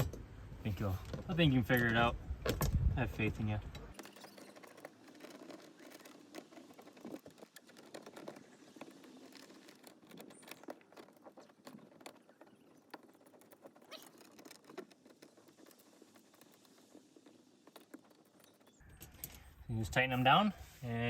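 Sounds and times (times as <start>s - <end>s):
bolts and washers rattling: 0.0s - 20.2s.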